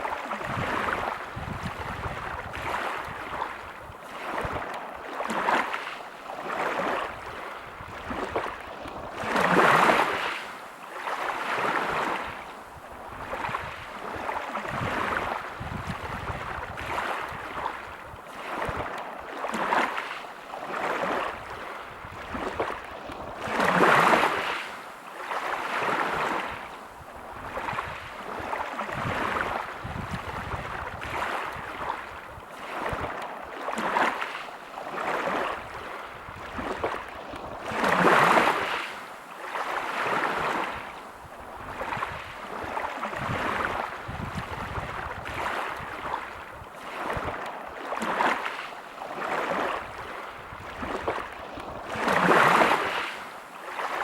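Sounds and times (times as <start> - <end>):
waves washing over pebbles: 0.0 - 54.0.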